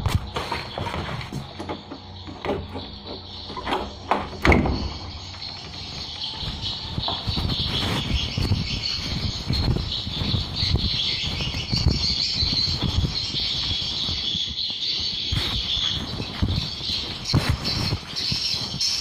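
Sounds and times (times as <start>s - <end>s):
low fluttering thumps: 1.3s - 19.0s.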